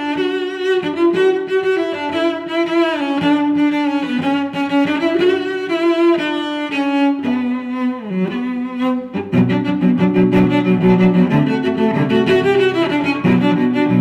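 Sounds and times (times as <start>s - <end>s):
bowed strings melody: 0.0s - 14.0s.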